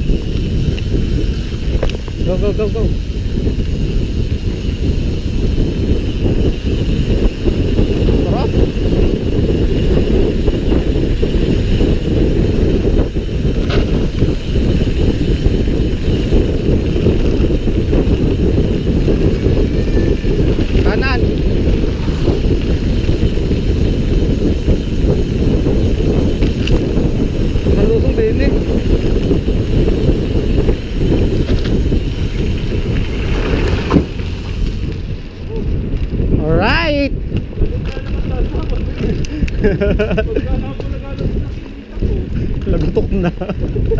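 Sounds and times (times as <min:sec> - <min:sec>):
tyre noise on paved road: 0:00.0 - 0:43.9
wind buffeting microphone: 0:00.0 - 0:43.9.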